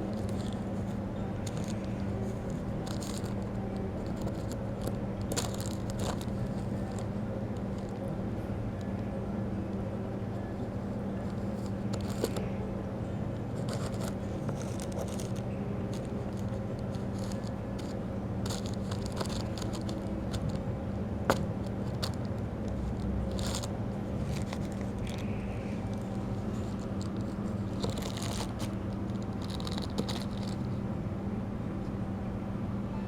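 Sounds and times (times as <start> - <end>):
light scraping and rustling: 0.0 - 8.1, 10.8 - 12.6, 13.4 - 20.7, 21.3 - 30.8
steady low hum: 0.0 - 33.0.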